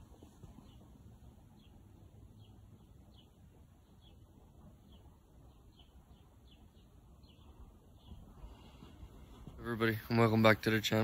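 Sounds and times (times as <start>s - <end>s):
small bird chirping: 0.0s - 9.5s
low outdoor background hum: 0.0s - 11.0s.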